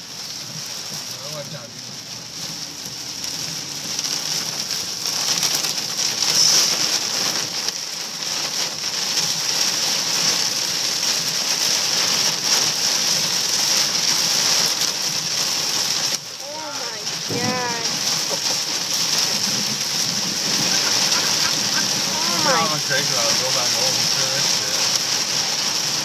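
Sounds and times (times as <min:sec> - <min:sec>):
hail and rain pelting a car roof: 0:00.0 - 0:26.0.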